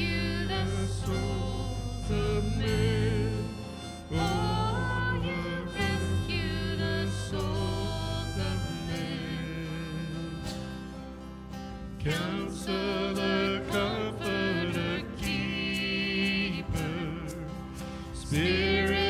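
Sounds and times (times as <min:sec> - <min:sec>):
harmonica melody: 0:00.0 - 0:19.0
strummed acoustic guitar: 0:00.0 - 0:19.0.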